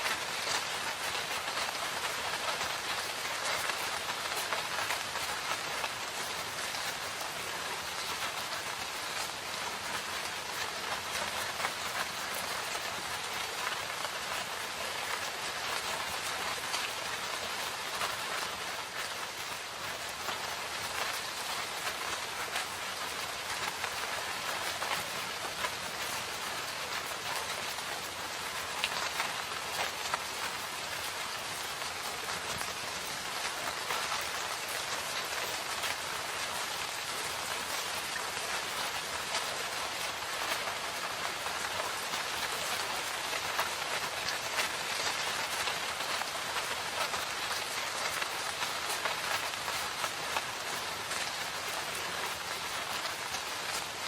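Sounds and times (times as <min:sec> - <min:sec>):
rain hissing: 0:00.0 - 0:54.0
raindrops tapping: 0:00.0 - 0:54.0.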